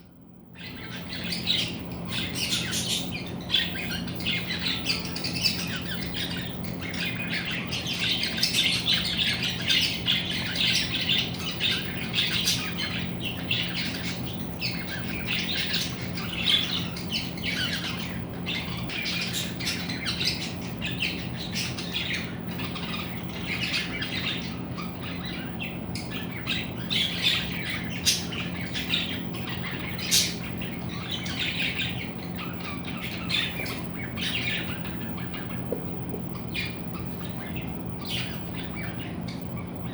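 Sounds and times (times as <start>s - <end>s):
birds squawking and chirping: 0.0s - 39.9s
steady low hum: 0.0s - 39.9s.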